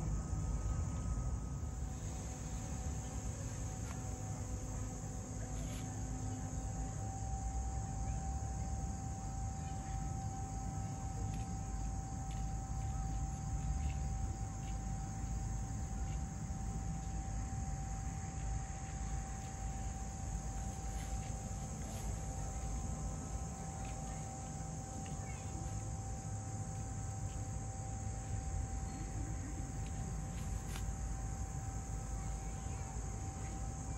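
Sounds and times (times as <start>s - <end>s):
faint constant hum: 0.0s - 33.9s
insects trilling: 0.0s - 33.9s.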